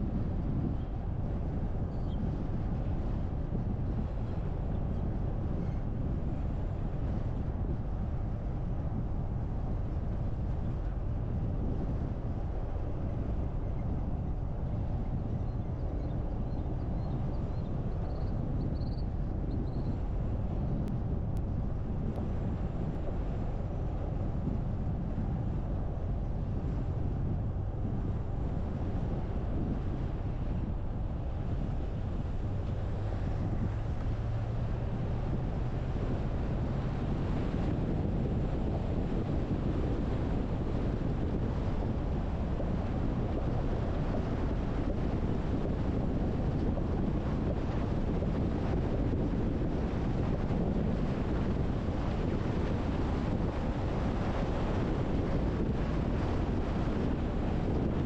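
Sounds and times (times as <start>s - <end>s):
car road and wind noise: 0.0s - 58.0s
wind buffeting microphone: 0.0s - 58.0s.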